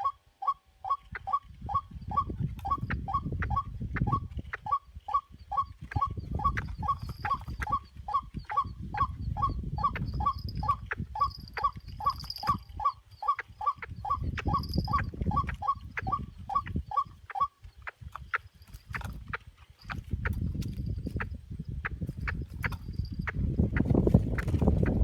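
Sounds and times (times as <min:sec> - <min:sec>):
bird croaking calls: 0:00.0 - 0:20.4.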